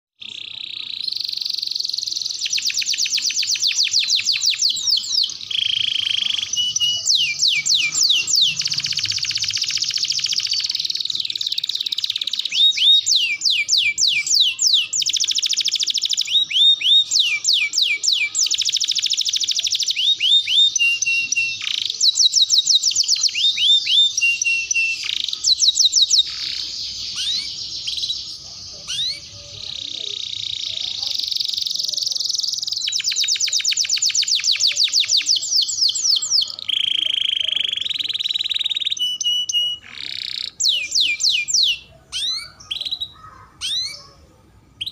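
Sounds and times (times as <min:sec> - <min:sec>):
canary singing trills: 0:00.2 - 0:44.9.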